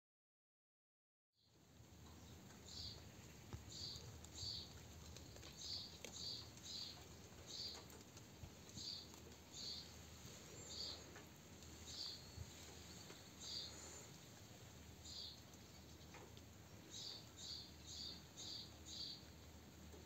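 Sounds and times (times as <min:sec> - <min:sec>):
faint steady hiss: 0:01.4 - 0:20.0
small bird chirping: 0:01.4 - 0:20.0.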